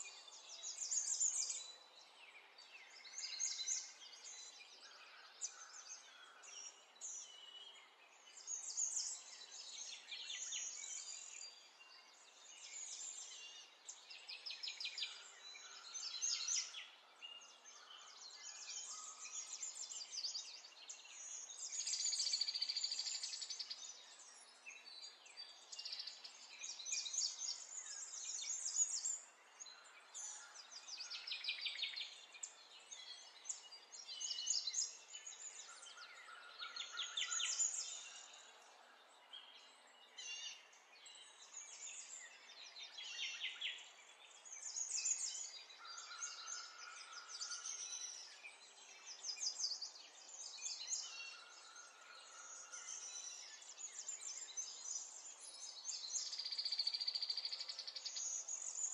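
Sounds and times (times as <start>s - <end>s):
birds singing and trilling: 0.0s - 58.9s
faint outdoor hiss: 0.0s - 58.9s.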